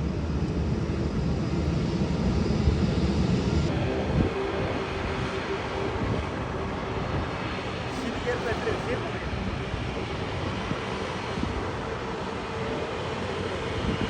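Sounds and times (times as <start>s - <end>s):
airliner engine rumble: 0.0s - 14.0s.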